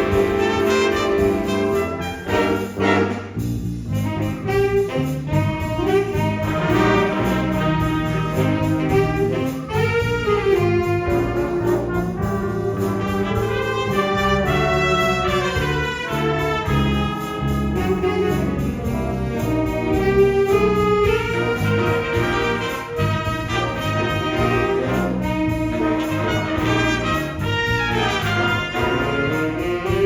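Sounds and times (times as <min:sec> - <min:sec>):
big band playing swing: 0:00.0 - 0:30.0.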